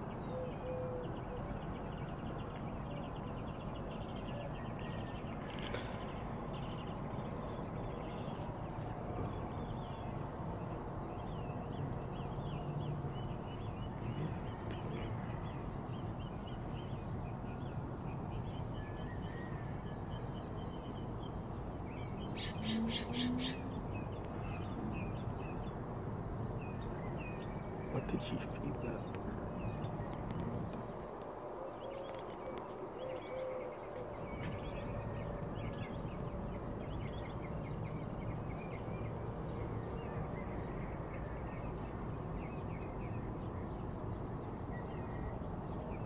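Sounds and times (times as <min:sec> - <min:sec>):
small birds chirping: 0:00.0 - 0:19.5, 0:20.1 - 0:46.0
outdoor background hum: 0:00.0 - 0:46.0.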